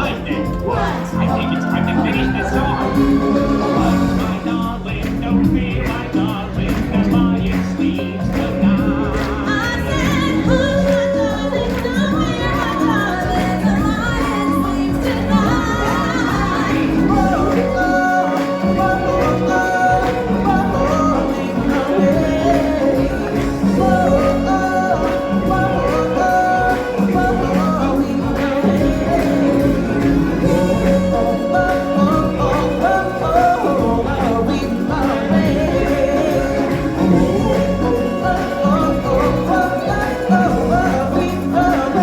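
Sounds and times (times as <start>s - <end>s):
singers holding long notes: 0.0s - 42.0s
stage show music accompaniment: 0.0s - 42.0s.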